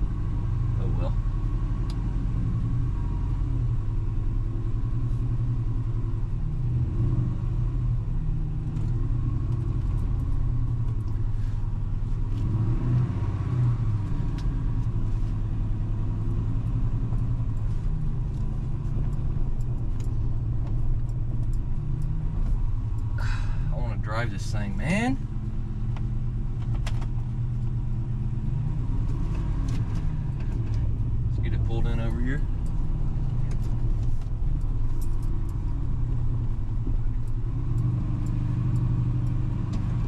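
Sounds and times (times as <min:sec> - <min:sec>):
car engine at low revs: 0:00.0 - 0:40.0.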